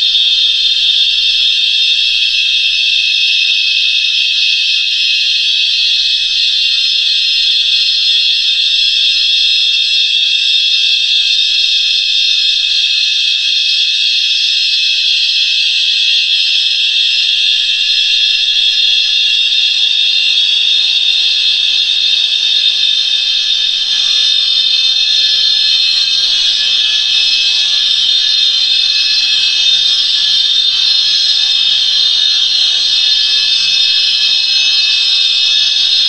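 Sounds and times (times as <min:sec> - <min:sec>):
high-pitched synthesized whine: 0:00.0 - 0:36.0.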